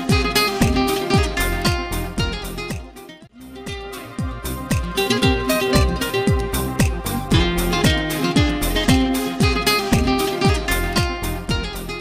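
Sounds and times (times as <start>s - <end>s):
music with steady drum beat: 0.0s - 12.0s.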